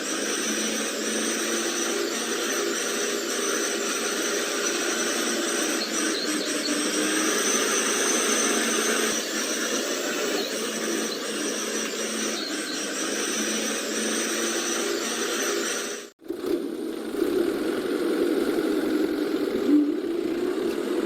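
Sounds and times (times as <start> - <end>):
small electric motors whirring: 0.0 - 21.0.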